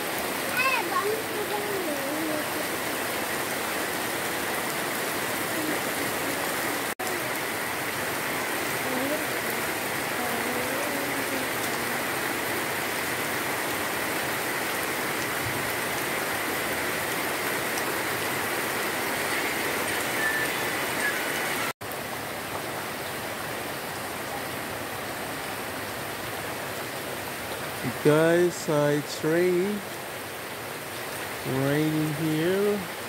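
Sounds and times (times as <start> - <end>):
rain falling on leaves: 0.0 - 33.0.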